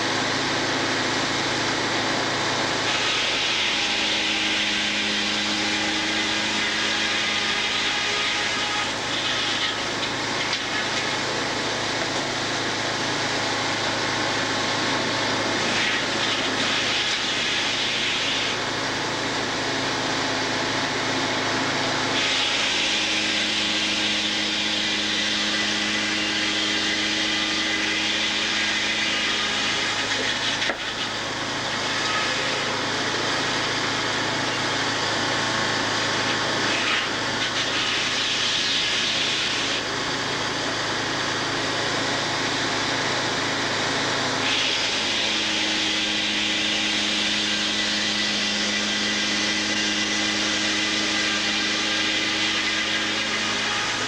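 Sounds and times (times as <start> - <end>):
saw cutting log: 0.0 - 54.0
sawmill machine noise: 0.0 - 54.0.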